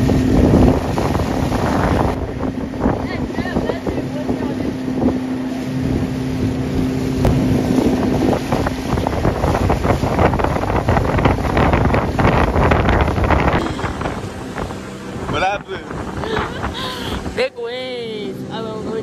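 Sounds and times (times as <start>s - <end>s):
boat motor humming: 0.0s - 19.0s
choppy water rushing: 0.0s - 19.0s
wind buffeting microphone: 0.0s - 19.0s.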